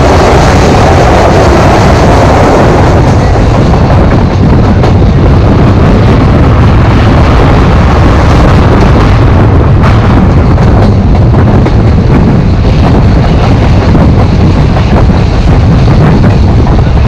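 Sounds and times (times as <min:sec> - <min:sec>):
passenger train running at speed: 0:00.0 - 0:17.0
tunnel roar: 0:00.0 - 0:17.0
wind buffeting microphone: 0:00.0 - 0:17.0.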